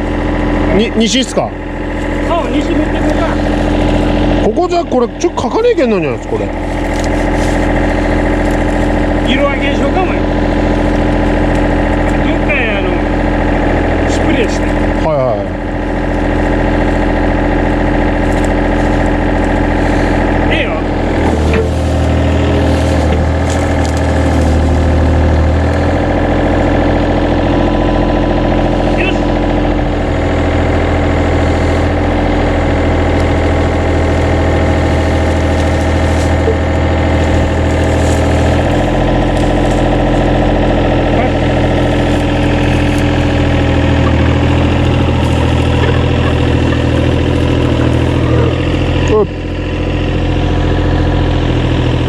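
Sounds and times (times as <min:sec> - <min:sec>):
motor engine running loudly: 0:00.0 - 0:52.0.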